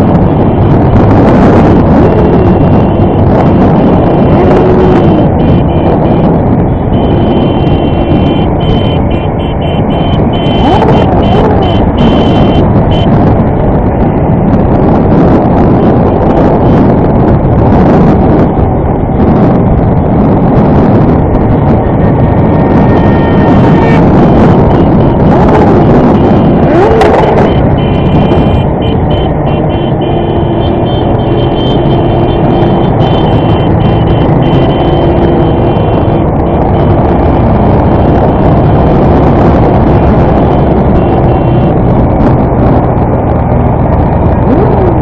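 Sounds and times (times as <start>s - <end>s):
motorcycle engine running: 0.0s - 45.0s
wind buffeting microphone: 0.0s - 45.0s.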